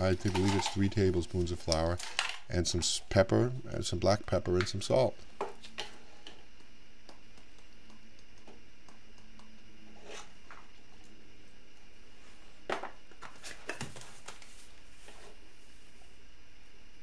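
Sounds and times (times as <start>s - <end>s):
room tone: 0.0s - 17.0s.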